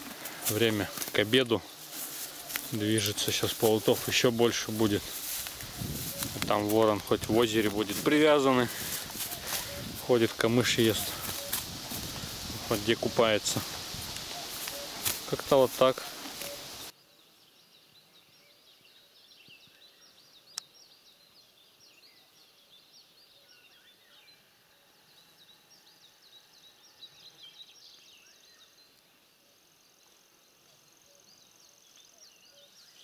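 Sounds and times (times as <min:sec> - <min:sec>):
songbirds chirping and trilling: 0:00.0 - 0:33.0.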